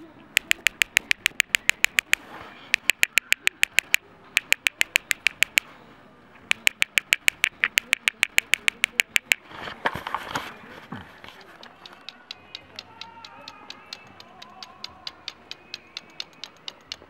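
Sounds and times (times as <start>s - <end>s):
nuts tapped together: 0.4s - 5.7s, 6.5s - 9.4s, 11.4s - 17.0s.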